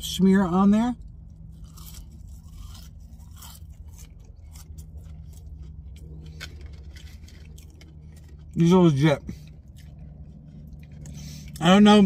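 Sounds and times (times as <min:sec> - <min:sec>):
steady low hum: 0:00.0 - 0:12.0
person chewing crunchy fries: 0:01.0 - 0:12.0.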